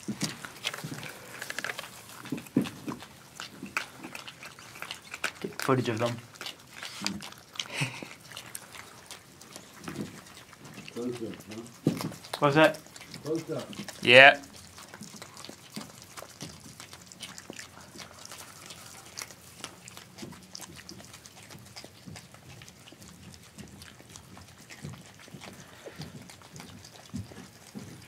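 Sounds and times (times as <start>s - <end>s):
animal chewing food: 0.0s - 28.0s.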